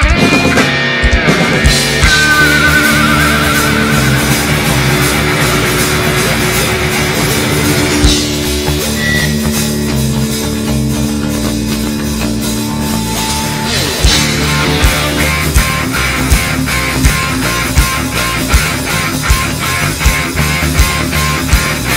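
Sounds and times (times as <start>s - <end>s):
guitar slide: 0.0s - 21.9s
heavy metal band playing: 0.0s - 21.9s.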